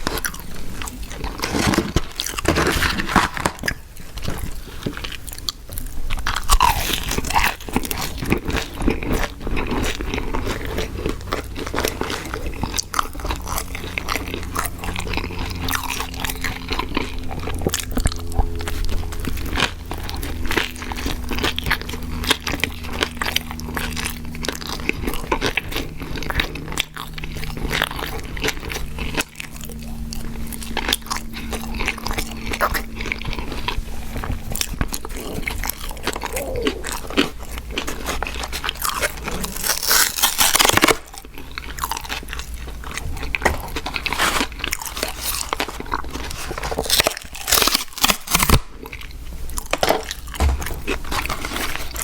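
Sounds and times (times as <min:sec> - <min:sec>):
crunchy food chewing: 0:00.0 - 0:52.0
faint low hum: 0:00.0 - 0:52.0.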